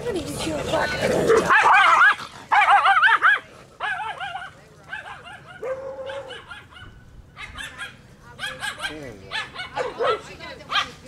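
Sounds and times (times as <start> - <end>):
small dogs yapping: 1.0 - 11.0.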